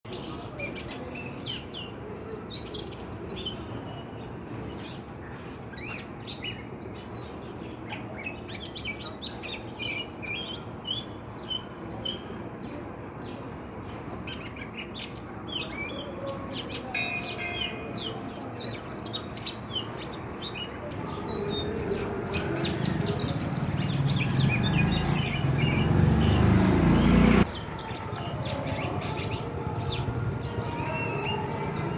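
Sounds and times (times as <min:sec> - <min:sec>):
small birds chirping: 0:00.1 - 0:31.9.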